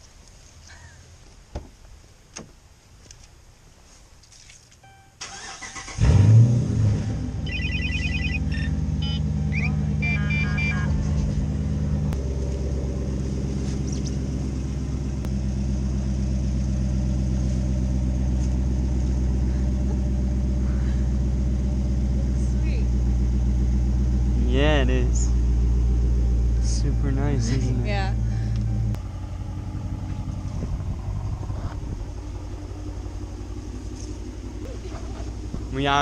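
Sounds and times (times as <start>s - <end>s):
car engine starting and idling: 4.8s - 36.0s.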